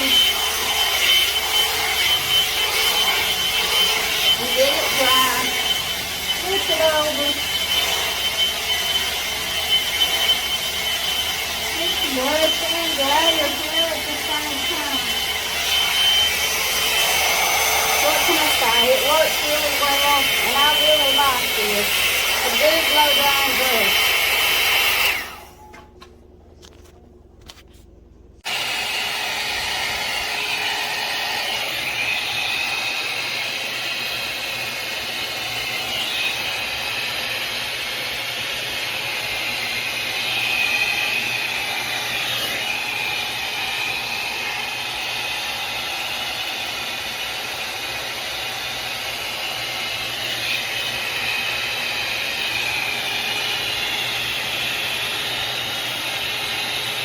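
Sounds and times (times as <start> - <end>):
hair dryer whirring: 0.0 - 26.9, 28.4 - 57.0.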